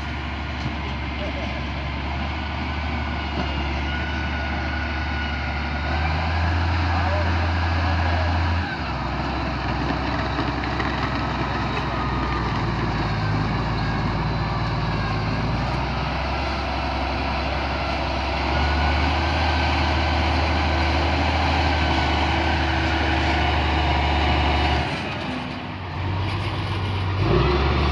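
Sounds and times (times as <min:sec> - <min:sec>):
heavy vehicle engine humming: 0:00.0 - 0:27.9.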